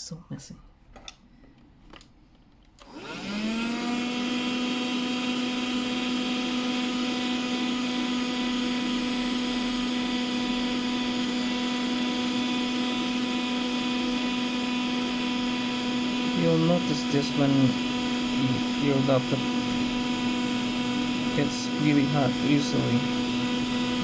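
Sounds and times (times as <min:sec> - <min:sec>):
vacuum cleaner motor whine: 0:02.8 - 0:24.0.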